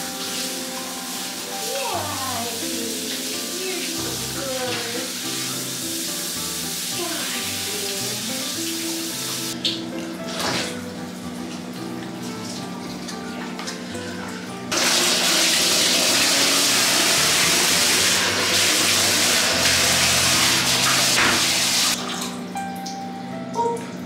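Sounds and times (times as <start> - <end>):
water running into a bathtub: 0.0 - 24.0.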